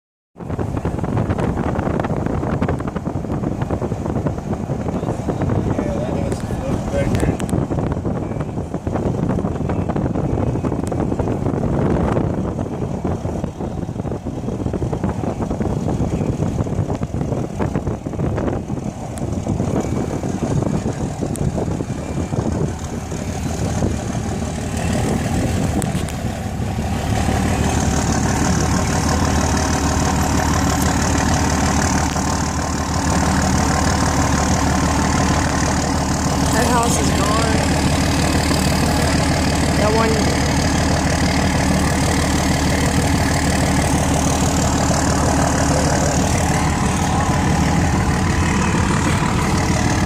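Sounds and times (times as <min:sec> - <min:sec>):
car engine idling: 0:00.4 - 0:50.0
rough rushing noise: 0:00.4 - 0:50.0.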